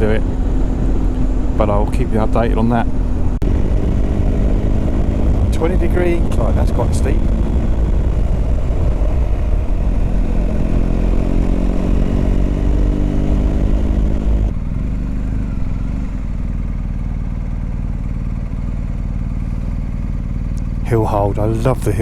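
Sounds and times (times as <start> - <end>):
motorcycle engine pulling uphill: 0.0 - 22.0.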